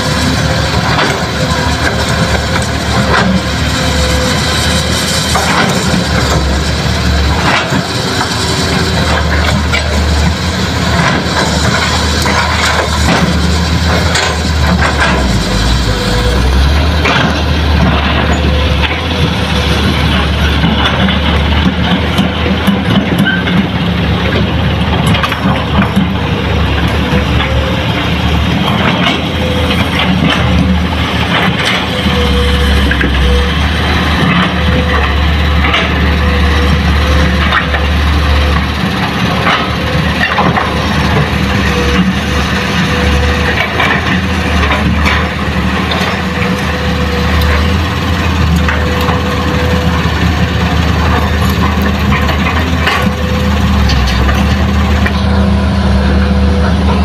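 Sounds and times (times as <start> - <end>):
diesel excavator engine droning: 0.0 - 57.0.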